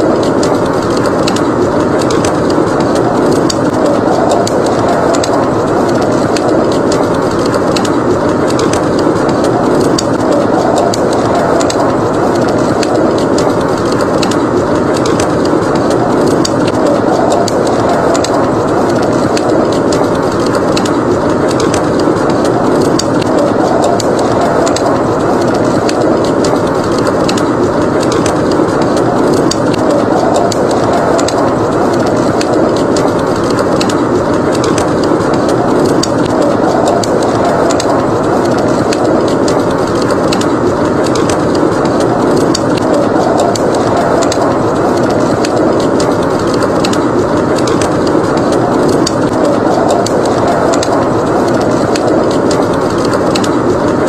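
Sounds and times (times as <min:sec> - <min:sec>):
blizzard wind rushing: 0:00.0 - 0:54.0
wood fire crackling: 0:00.0 - 0:54.0.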